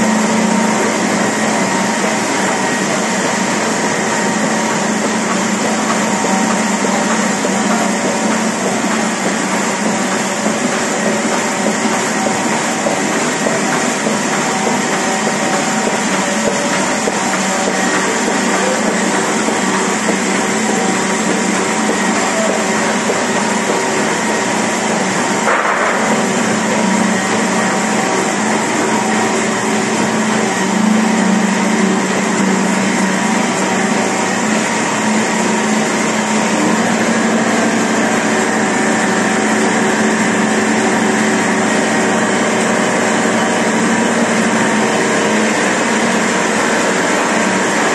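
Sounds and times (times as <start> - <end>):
printing press running: 0.0 - 47.9.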